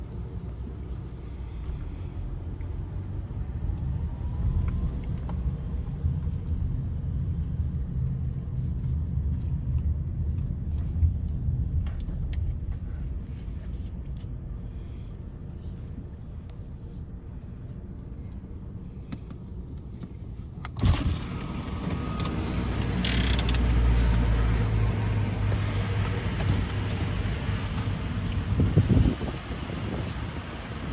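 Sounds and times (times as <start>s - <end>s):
car engine rumbling: 0.0s - 30.9s.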